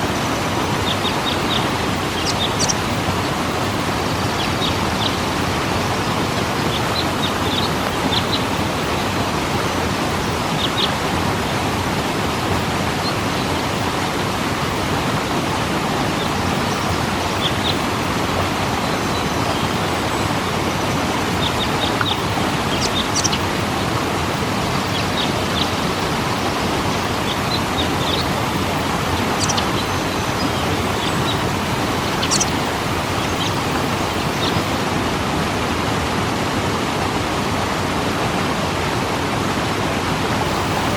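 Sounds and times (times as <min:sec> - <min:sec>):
birds chirping: 0:00.0 - 0:34.8, 0:40.4 - 0:40.9
waterfall roaring: 0:00.0 - 0:40.9.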